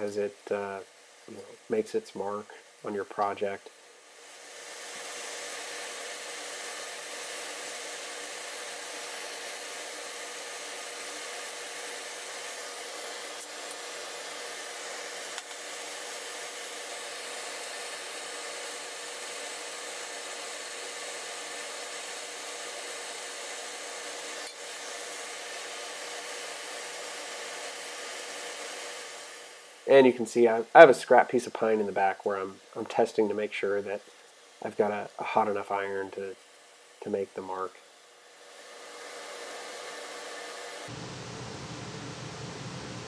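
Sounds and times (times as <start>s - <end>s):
gas torch hissing: 0.0s - 43.0s.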